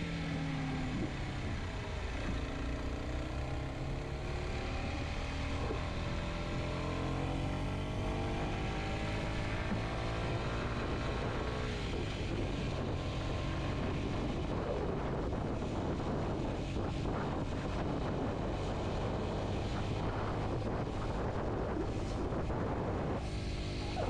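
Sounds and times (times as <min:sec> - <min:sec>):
wind noise on microphone: 0:00.0 - 0:02.4, 0:03.5 - 0:24.0
motorcycle engine running: 0:00.0 - 0:24.0.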